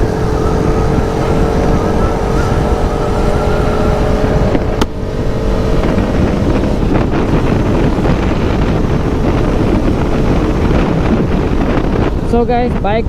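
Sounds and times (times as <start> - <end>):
motorcycle engine running: 0.0 - 13.0
wind noise on microphone: 0.0 - 13.0.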